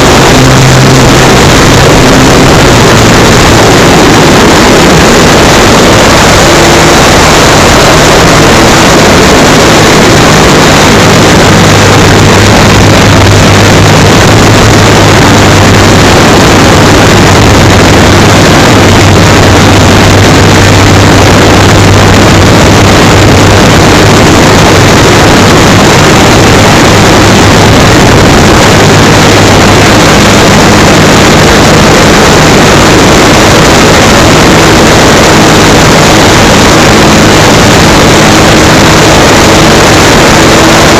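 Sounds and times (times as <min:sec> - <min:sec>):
low motor hum: 0:00.0 - 0:40.9
model plane propeller and air rush: 0:00.0 - 0:40.9.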